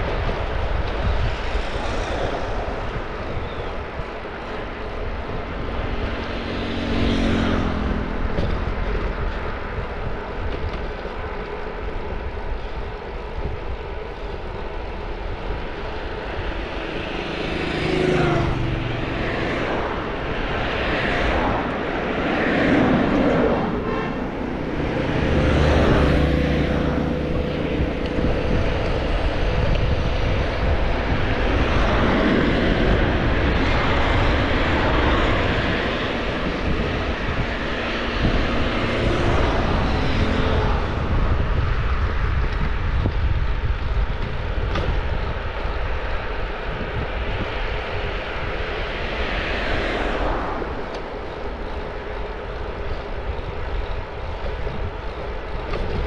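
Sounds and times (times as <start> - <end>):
tyre noise on road: 0.0 - 56.0
wind buffeting microphone: 0.0 - 56.0.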